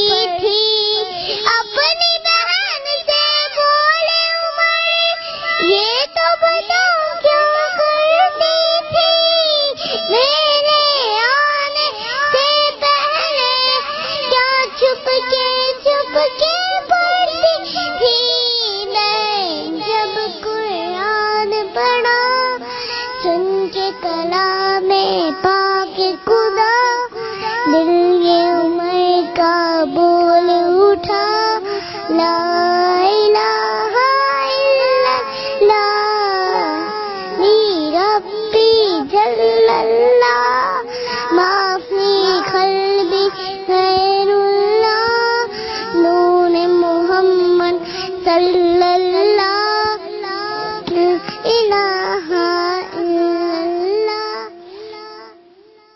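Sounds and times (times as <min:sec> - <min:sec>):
girl singing devotional song: 0:00.0 - 0:55.9.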